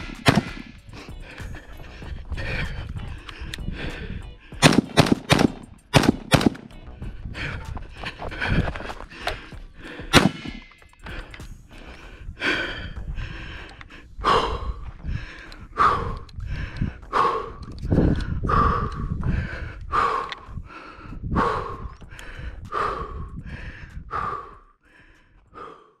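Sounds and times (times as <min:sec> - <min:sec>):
person breathing hard: 0:00.0 - 0:05.0, 0:06.8 - 0:26.0.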